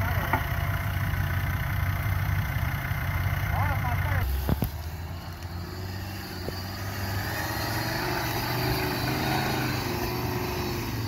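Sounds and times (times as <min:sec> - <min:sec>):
off-road vehicle engine at low revs: 0:00.0 - 0:11.0.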